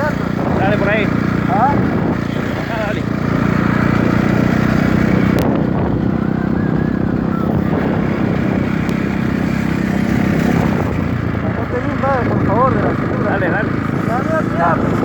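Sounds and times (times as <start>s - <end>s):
dirt bike engine drone: 0.0s - 15.0s.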